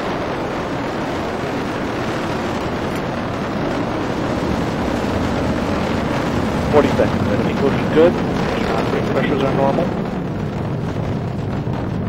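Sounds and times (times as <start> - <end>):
rocket engine rumble: 0.0 - 12.0.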